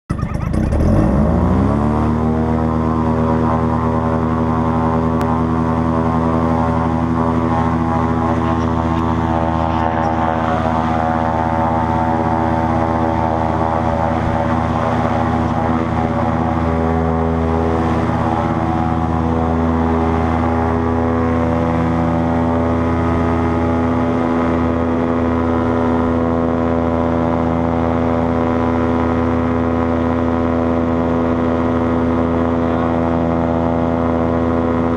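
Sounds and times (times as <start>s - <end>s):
paramotor engine and propeller: 0.1s - 34.9s.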